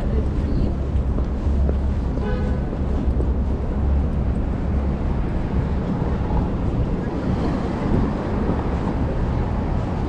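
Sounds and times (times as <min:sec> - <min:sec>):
passing traffic rumble: 0:00.0 - 0:10.0
wind buffeting microphone: 0:00.0 - 0:10.0.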